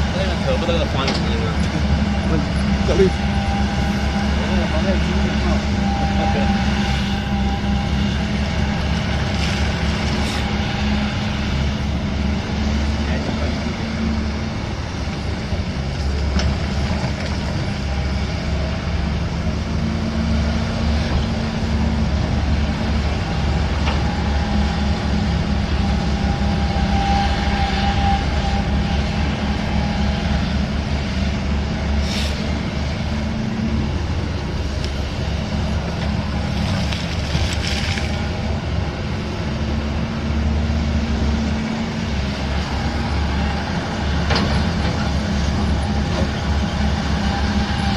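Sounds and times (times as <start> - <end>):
heavy diesel engine rumbling: 0.0 - 47.9.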